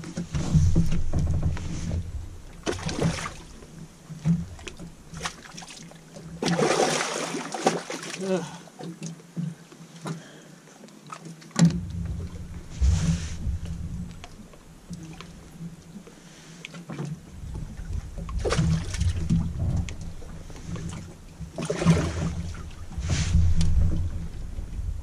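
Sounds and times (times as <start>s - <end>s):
water splashing at dock edge: 0.0s - 25.0s.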